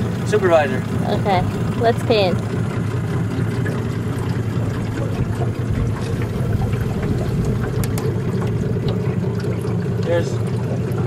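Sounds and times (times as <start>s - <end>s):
motorboat engine running: 0.0s - 11.0s
water around boat hull: 0.0s - 11.0s.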